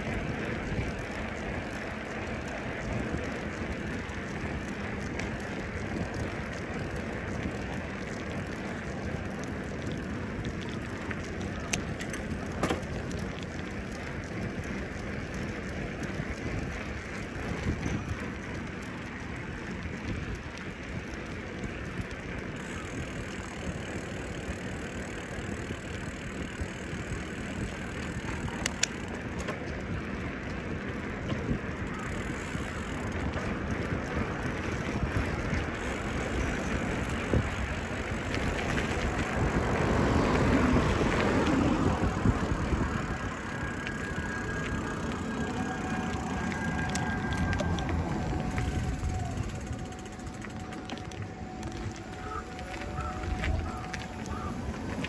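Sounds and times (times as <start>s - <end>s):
bicycle tyre noise: 0.0s - 55.0s
bike clicks and rattles: 0.0s - 55.0s.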